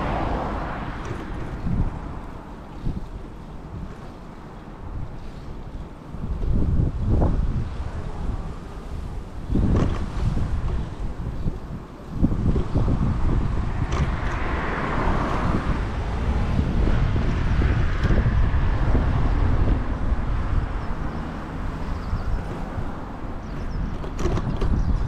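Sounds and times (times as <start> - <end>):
vehicle tyre noise passing: 0.0 - 25.0
wind buffeting microphone: 0.0 - 25.0.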